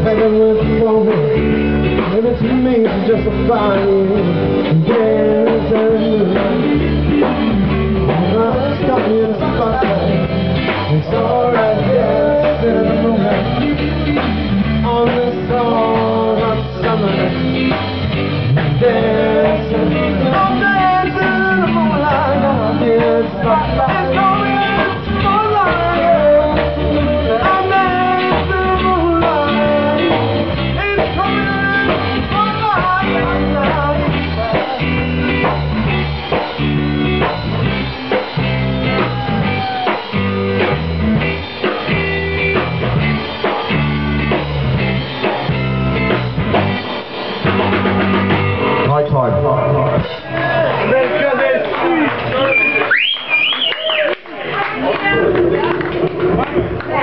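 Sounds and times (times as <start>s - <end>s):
blues-rock song with guitar: 0.0s - 50.9s.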